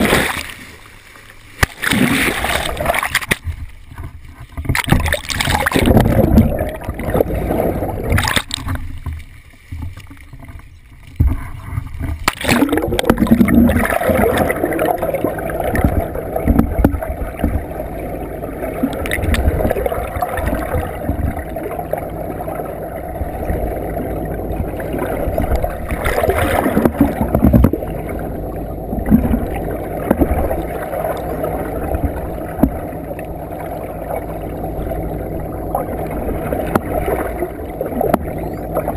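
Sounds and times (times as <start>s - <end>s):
loud water splashes: 0.0s - 1.0s, 1.6s - 3.5s, 4.7s - 8.9s, 12.2s - 35.0s, 35.7s - 38.9s
muffled underwater water rush: 0.0s - 38.9s.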